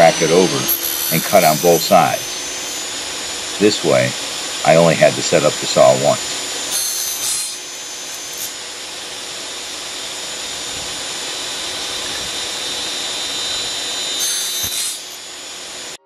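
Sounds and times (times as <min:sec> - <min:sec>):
saw cutting aluminum: 0:00.0 - 0:16.0
table saw running: 0:00.0 - 0:16.0.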